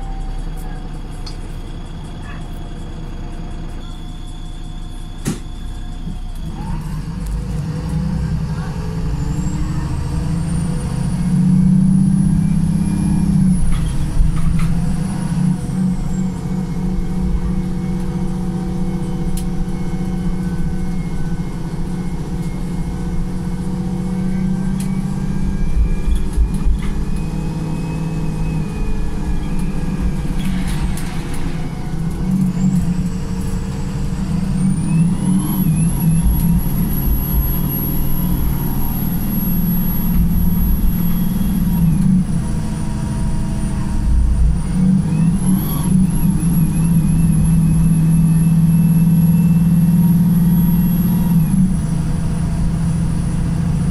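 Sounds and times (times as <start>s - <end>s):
bus engine humming and whining: 0.0s - 53.9s.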